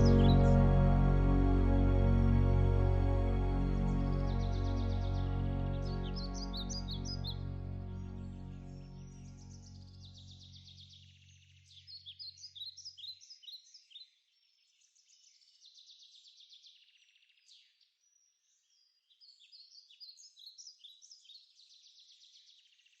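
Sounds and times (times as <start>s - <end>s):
faint songbird chorus: 0.0s - 23.0s.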